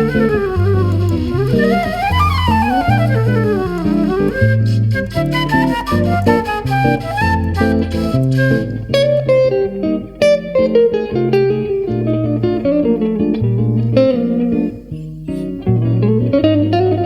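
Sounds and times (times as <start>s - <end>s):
solo jazz guitar: 0.0s - 17.0s.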